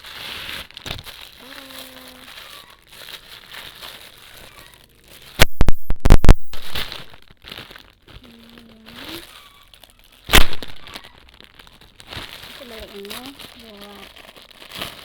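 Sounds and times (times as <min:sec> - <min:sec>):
packaging crinkled and torn: 0:00.0 - 0:15.0
sharp packaging crackles: 0:00.0 - 0:15.0.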